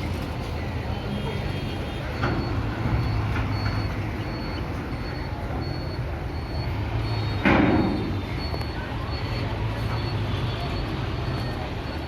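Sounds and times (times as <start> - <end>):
heavy vehicle engine rumbling: 0.0 - 12.0
outdoor noise: 0.0 - 12.0.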